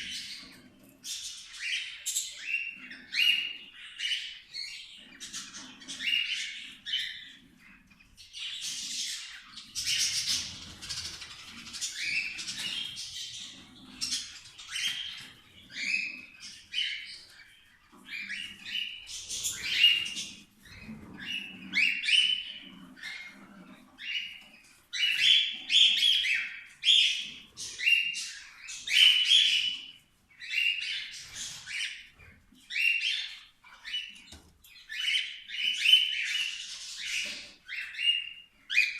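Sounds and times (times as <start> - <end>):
cockatiels chirping and squawking: 0.0 - 38.9.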